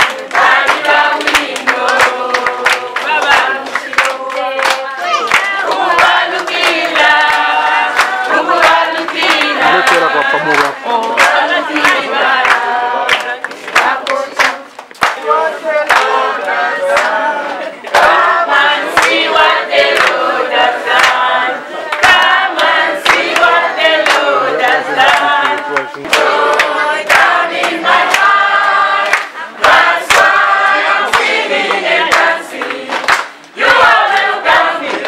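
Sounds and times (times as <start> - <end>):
hand claps: 0.0 - 35.0
women and children singing: 0.0 - 35.0.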